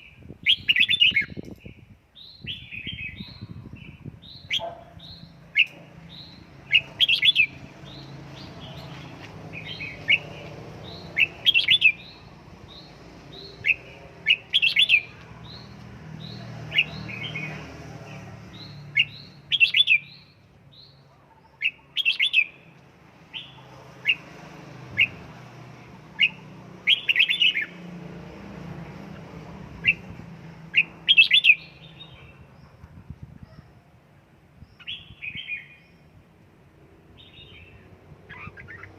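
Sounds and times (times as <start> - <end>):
bird chirping phrases: 0.0 - 24.3, 26.2 - 27.8, 29.1 - 33.7, 34.6 - 36.2, 37.1 - 38.9.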